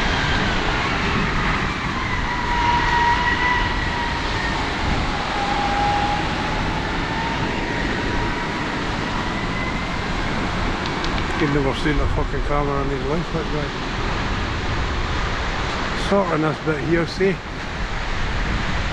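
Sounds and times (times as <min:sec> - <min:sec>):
strong wind on microphone: 0:00.0 - 0:18.9.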